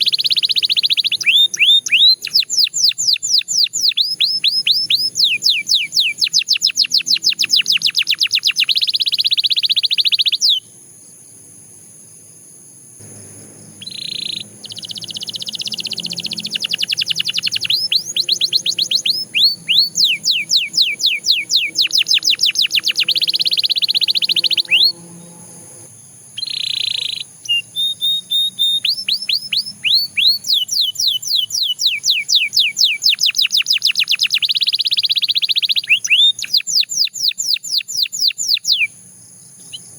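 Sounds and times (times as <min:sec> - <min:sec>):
canary singing trills: 0:00.0 - 0:10.7, 0:13.0 - 0:39.9.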